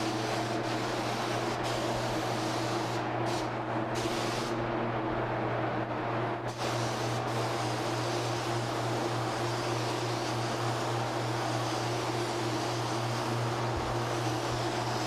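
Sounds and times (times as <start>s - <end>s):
spray gun hissing: 0.0s - 4.6s, 6.5s - 15.0s.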